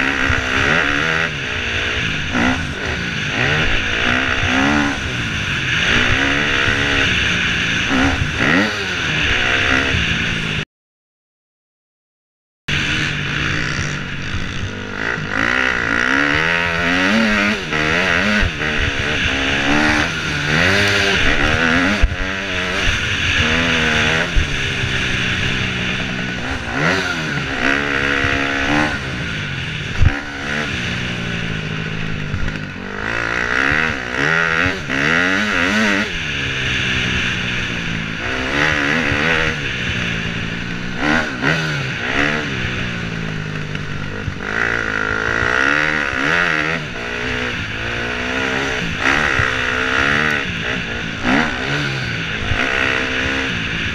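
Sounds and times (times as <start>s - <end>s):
dirt bike engine revving: 0.0s - 10.6s, 12.7s - 53.9s.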